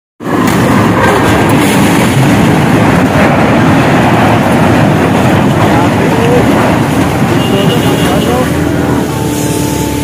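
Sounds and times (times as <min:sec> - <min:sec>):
loud steady rumbling: 0:00.2 - 0:10.0.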